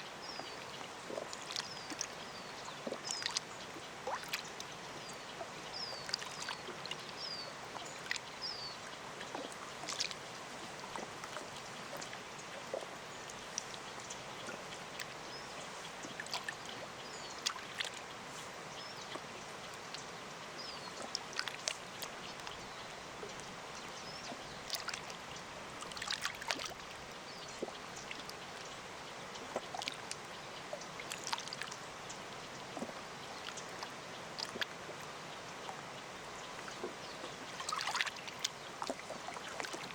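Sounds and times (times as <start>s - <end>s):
waves lapping at shore: 0.0s - 39.9s.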